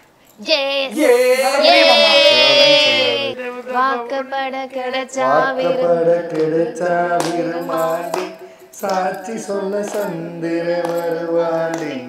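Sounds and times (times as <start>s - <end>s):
people singing into a microphone: 1.0s - 12.0s.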